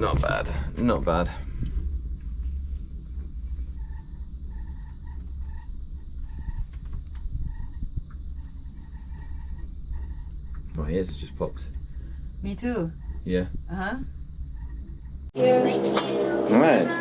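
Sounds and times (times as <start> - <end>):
crickets chirring: 0.0 - 15.4
low rumble: 0.0 - 16.6.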